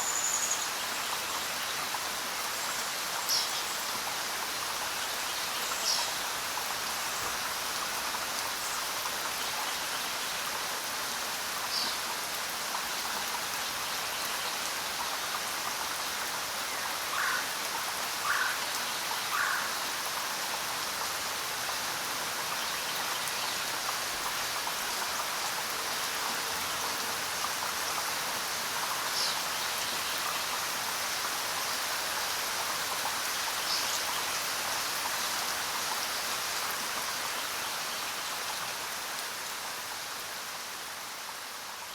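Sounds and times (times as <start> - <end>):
rain falling in forest: 0.0 - 41.9.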